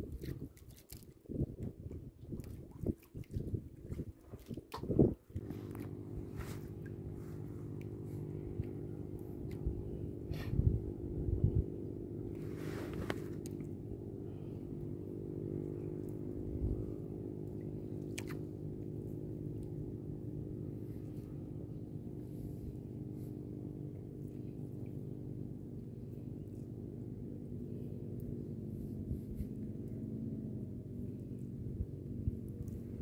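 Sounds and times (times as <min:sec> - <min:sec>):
boat engine idling: 0:05.4 - 0:33.0.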